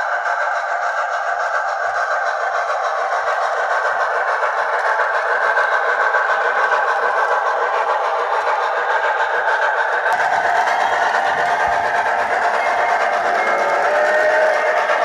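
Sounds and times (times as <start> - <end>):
tinny model steam exhaust: 0.0 - 15.0.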